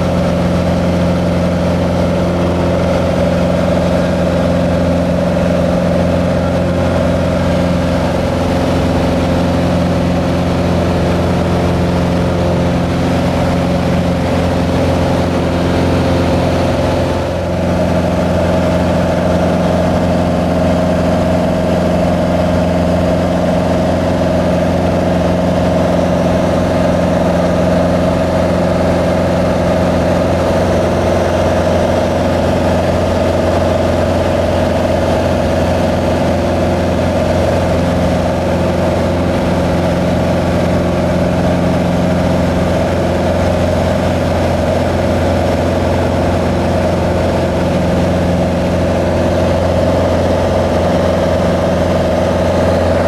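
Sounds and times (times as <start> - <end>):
small plane engine drone: 0.0 - 53.0.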